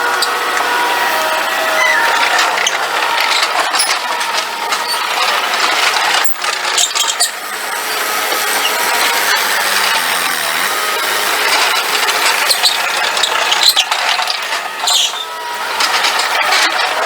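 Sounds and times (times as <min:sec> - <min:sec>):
diesel engine running: 0:00.0 - 0:17.0
tracks clattering and squealing: 0:00.0 - 0:17.0.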